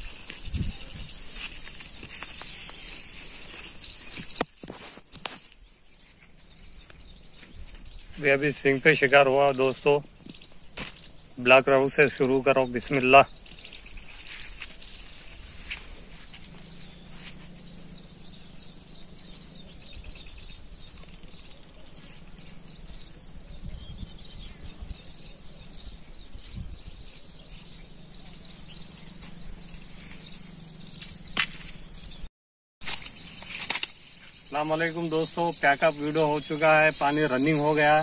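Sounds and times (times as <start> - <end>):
faint outdoor background: 0.0 - 38.0
small birds chirping: 0.0 - 38.0.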